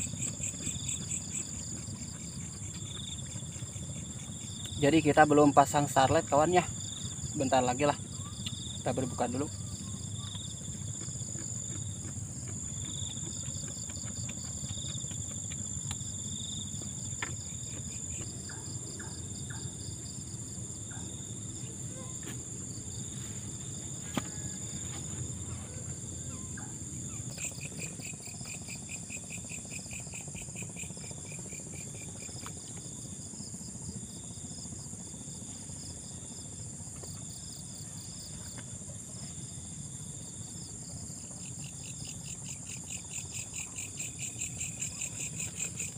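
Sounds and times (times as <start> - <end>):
low steady rumble: 0.0 - 41.4
crickets and insects chirping: 0.0 - 45.9.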